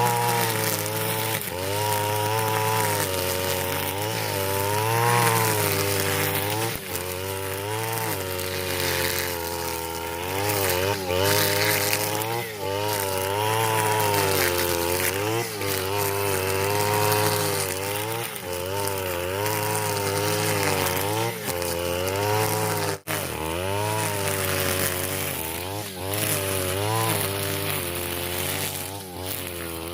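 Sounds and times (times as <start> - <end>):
brush cutter cutting grass: 0.0 - 29.9.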